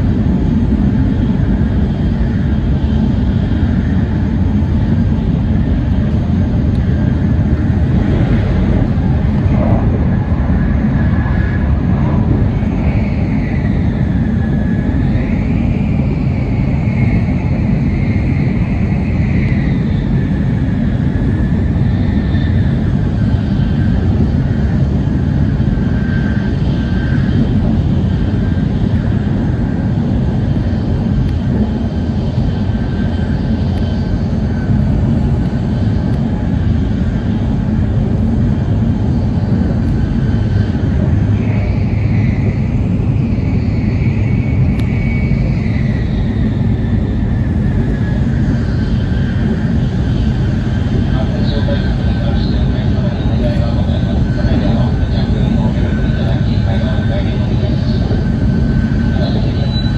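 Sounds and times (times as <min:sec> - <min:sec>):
high whine: 0:00.0 - 0:59.9
train heavy rumble: 0:00.0 - 0:59.9.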